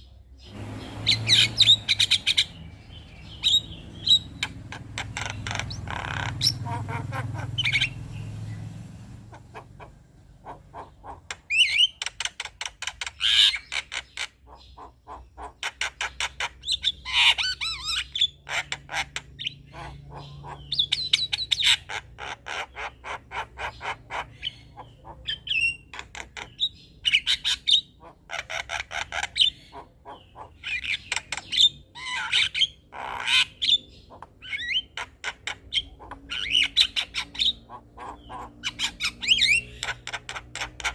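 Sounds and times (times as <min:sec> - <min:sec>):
bird rattles and squawks: 0:04.1 - 0:40.9.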